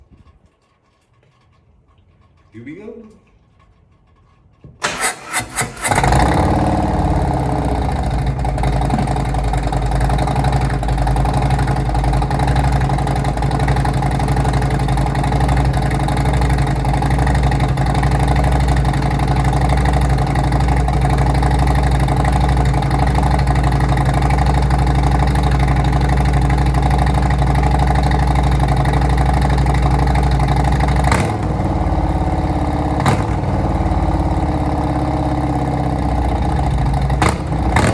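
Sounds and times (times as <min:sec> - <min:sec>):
starter cranking: 0:00.0 - 0:31.6
motorcycle engine idling loudly: 0:04.8 - 0:37.9.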